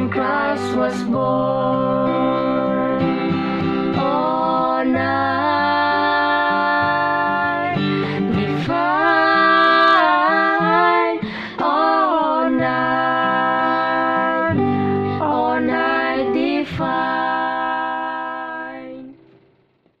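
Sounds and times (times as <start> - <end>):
man and woman singing duet: 0.0 - 19.2
acoustic guitar: 0.0 - 20.0.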